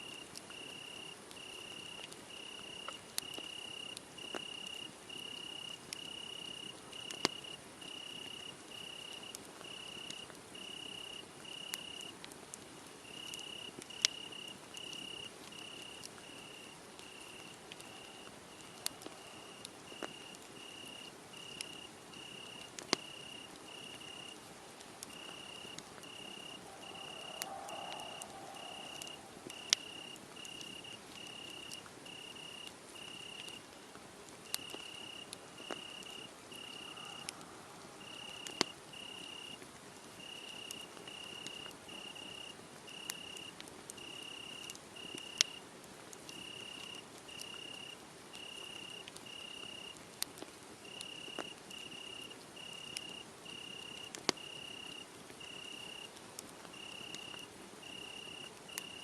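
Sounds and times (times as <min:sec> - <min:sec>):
crickets chirping: 0:00.0 - 0:12.1, 0:13.0 - 0:33.7, 0:34.5 - 0:39.6, 0:40.2 - 0:45.6, 0:46.3 - 0:50.0, 0:50.8 - 0:56.1, 0:56.7 - 0:59.0
wood fire crackling and popping: 0:00.0 - 0:59.0.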